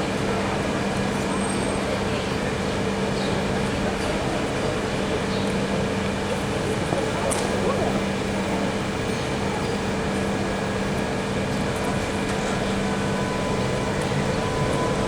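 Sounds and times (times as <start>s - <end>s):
tram humming: 0.0s - 15.0s.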